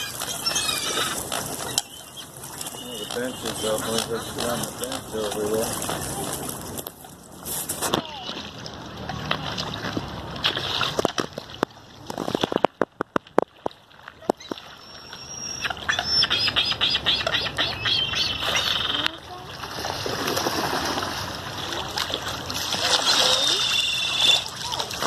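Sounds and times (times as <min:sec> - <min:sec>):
water birds calling: 0:00.0 - 0:25.0.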